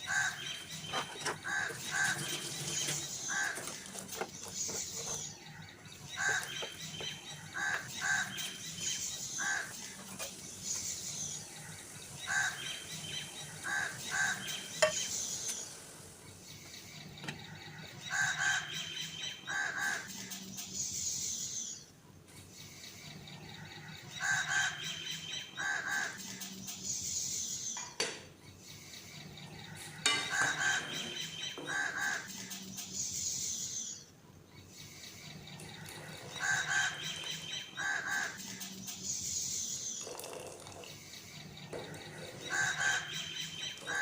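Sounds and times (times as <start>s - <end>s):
birds calling: 0.0s - 44.0s
birds twittering: 0.0s - 44.0s.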